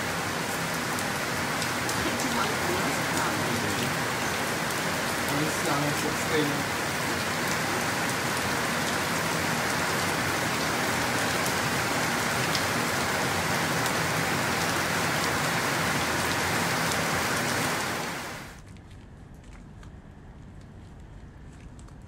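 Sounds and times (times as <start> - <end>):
steady rain: 0.0 - 18.7.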